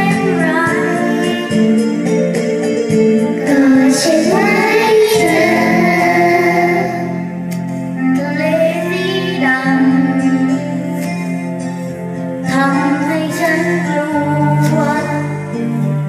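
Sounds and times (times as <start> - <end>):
children singing through microphones: 0.0 - 2.3, 3.2 - 11.2, 12.4 - 16.0
backing music: 0.0 - 16.0.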